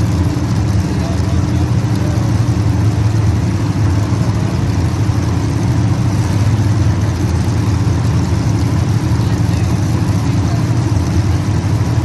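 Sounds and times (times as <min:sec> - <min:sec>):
race car engines humming: 0:00.0 - 0:12.0.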